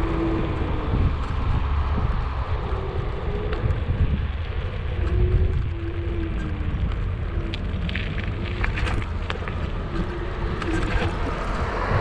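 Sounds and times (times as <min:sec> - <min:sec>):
tyre rumble on asphalt: 0:00.0 - 0:12.0
wind buffeting microphone: 0:00.0 - 0:12.0.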